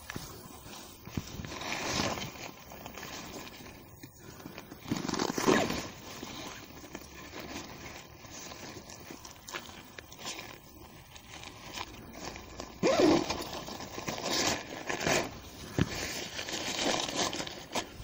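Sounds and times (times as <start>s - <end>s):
tent fabric rustling: 0.0s - 18.0s.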